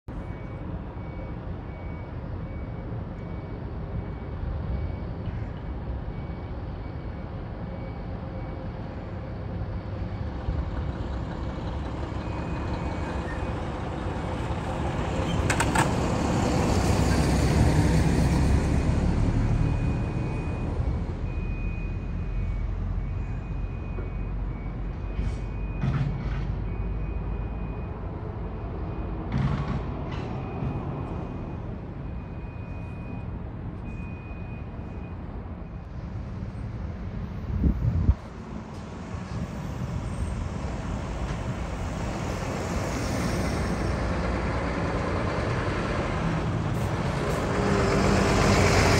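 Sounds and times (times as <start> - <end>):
diesel trucks running: 0.1 - 48.9.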